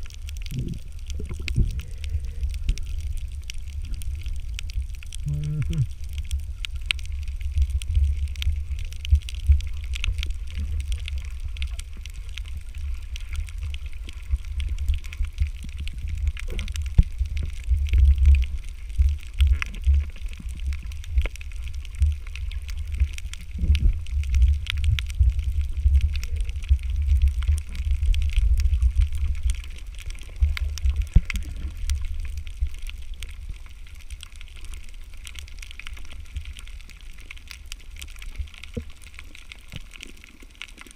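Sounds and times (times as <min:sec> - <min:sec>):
faint crackle of clicks: 0:00.0 - 0:40.9
muffled underwater water rumble: 0:00.0 - 0:40.9.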